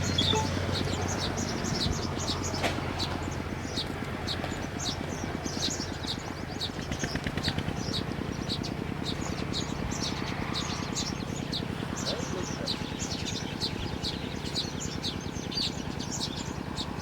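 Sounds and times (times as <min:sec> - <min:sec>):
low mechanical rumble: 0:00.0 - 0:17.0
small birds chirping: 0:00.0 - 0:17.0.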